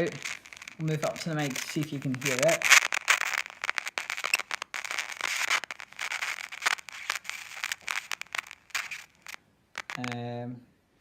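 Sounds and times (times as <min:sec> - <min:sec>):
phone speaker static crackling: 0:00.0 - 0:10.5.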